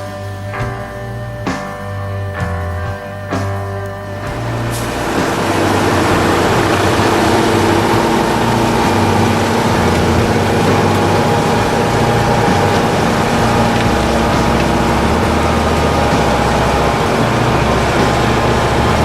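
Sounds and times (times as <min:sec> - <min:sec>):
tracked vehicle engine running: 0:02.4 - 0:19.0.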